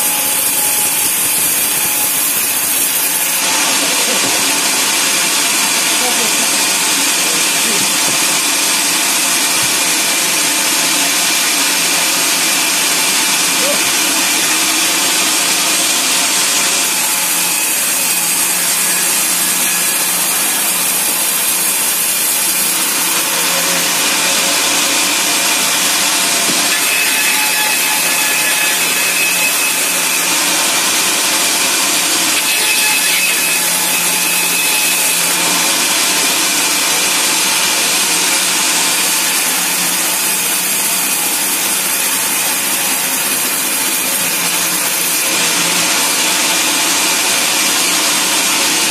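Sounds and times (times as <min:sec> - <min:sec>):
band saw rasping through log: 0:00.0 - 0:48.9
faint saw whine: 0:00.0 - 0:48.9.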